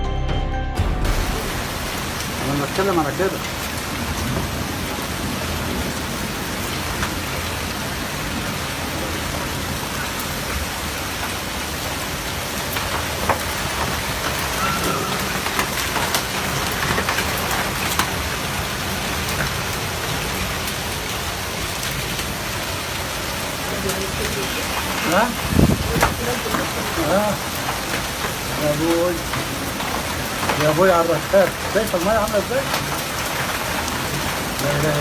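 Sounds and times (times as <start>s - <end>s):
heavy rain splashing: 0.8s - 35.0s.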